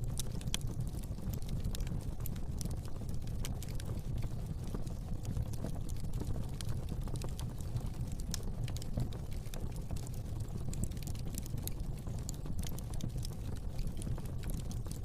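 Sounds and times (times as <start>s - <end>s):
low rumble of flame: 0.0s - 15.0s
wood fire crackling and popping: 0.0s - 15.0s.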